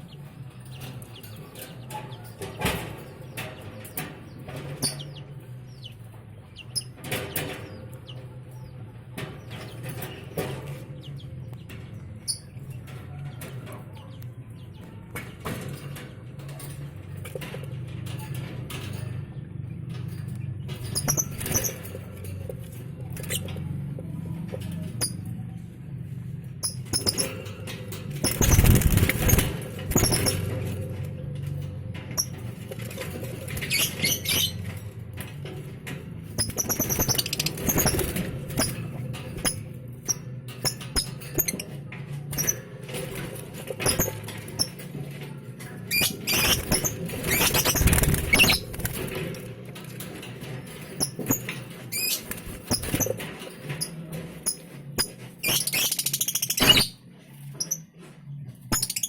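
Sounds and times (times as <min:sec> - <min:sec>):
birds scratching and rustling: 0:00.0 - 0:59.0.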